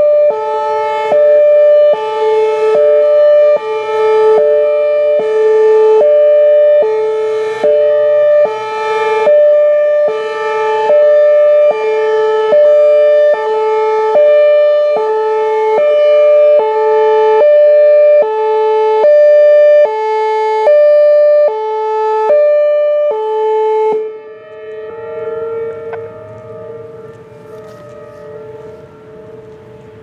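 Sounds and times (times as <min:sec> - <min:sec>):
two-tone warning siren wailing: 0:00.0 - 0:30.0.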